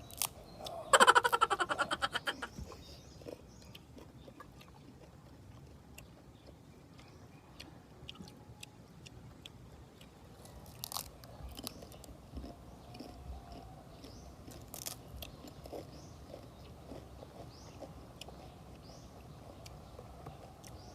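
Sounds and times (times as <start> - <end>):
person chewing crunchy food: 0.0 - 20.9.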